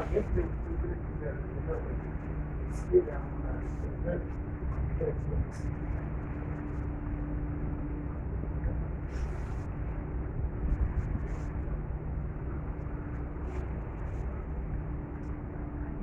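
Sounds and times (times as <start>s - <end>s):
ferry engines humming: 0.0s - 16.0s
water noise: 0.0s - 16.0s
wind: 0.0s - 16.0s.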